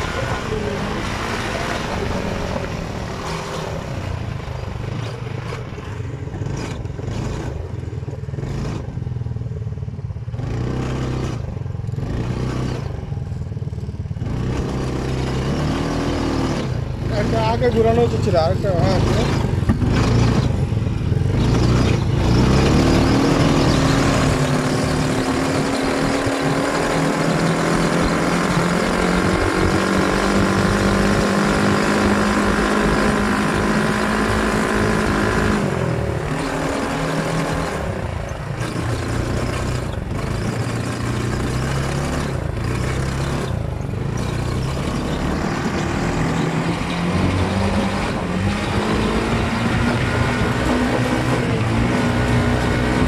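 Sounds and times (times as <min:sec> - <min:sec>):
buggy engine running: 0:00.0 - 0:53.0.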